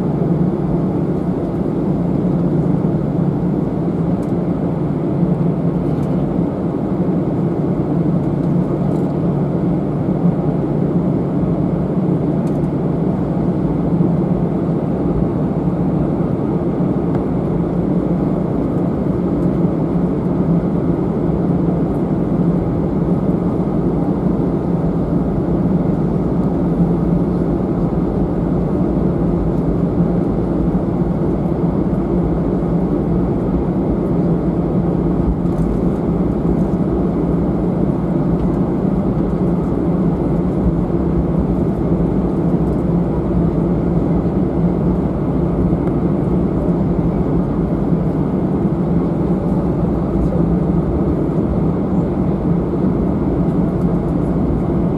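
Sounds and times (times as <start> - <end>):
airplane engines droning: 0.0 - 54.9.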